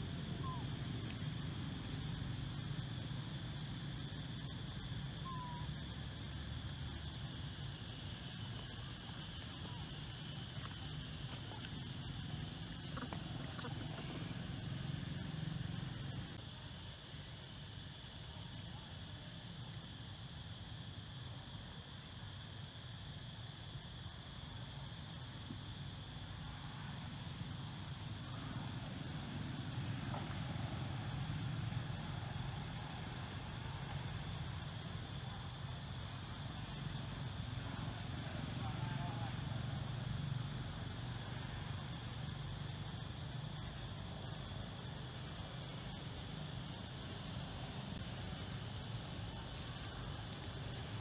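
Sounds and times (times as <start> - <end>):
high insect drone: 0.0 - 51.0
insect chirping: 0.0 - 51.0.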